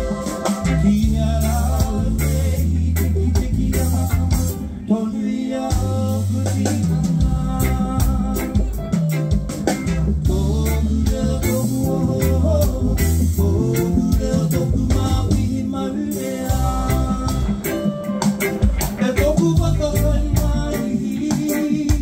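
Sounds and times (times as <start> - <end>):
drum kit: 0.0 - 5.0, 5.6 - 22.0
bass guitar: 0.0 - 22.0
electric guitar: 0.0 - 22.0
person singing: 0.0 - 22.0.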